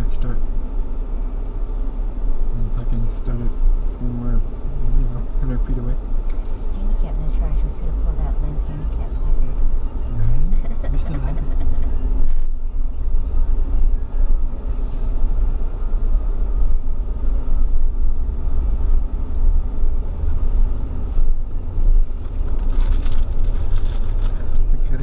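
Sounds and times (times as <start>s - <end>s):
car driving rumble inside cabin: 0.0s - 25.0s.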